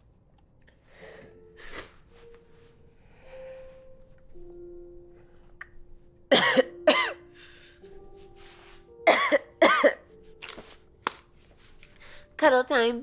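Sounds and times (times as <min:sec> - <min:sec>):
soft sustained music notes: 0:00.7 - 0:13.0.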